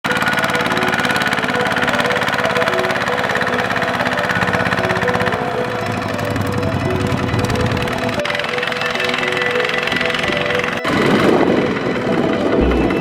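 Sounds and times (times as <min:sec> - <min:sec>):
tractor engine running: 0:00.0 - 0:13.0
short tune notes: 0:00.1 - 0:13.0.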